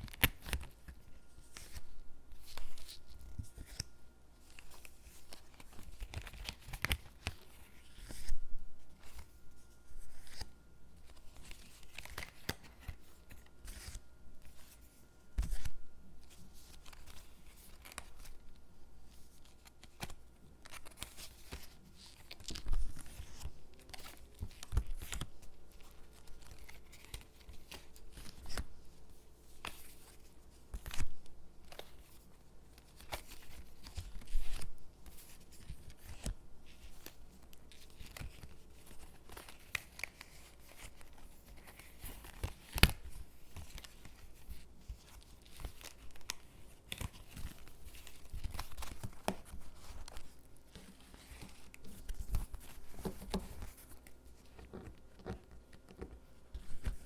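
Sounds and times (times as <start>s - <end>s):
paper crinkling and rustling: 0.0s - 57.0s.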